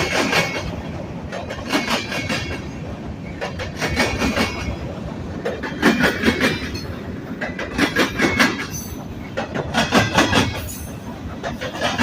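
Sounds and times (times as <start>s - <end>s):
train wheels clacking over rail joints: 0.0s - 12.0s.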